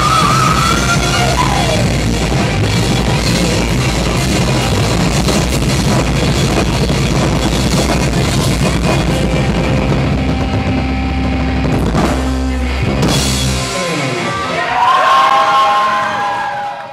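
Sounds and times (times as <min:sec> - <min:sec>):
heavy drum hit: 0:00.0 - 0:14.1
live rock band playing: 0:00.0 - 0:16.3.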